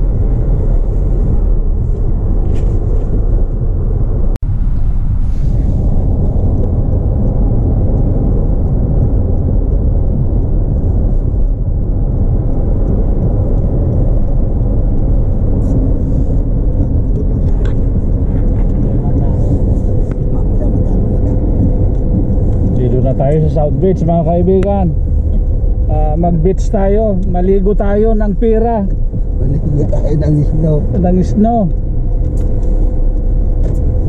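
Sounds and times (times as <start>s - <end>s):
car road rumble from inside cabin: 0.0s - 34.0s.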